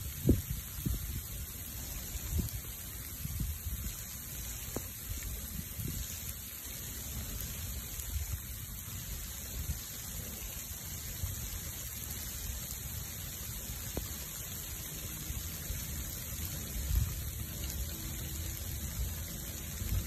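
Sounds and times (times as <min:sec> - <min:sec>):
rain hissing: 0:00.0 - 0:20.0.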